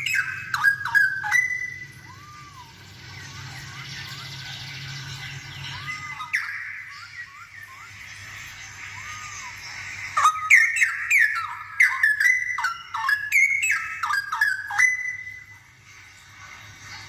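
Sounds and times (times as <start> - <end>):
bird singing bubbly whistled notes: 0.0 - 15.8.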